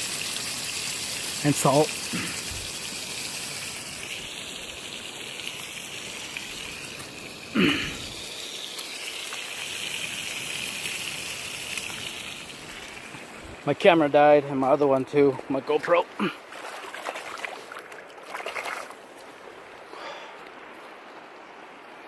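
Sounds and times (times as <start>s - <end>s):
river rushing: 1.4s - 22.0s.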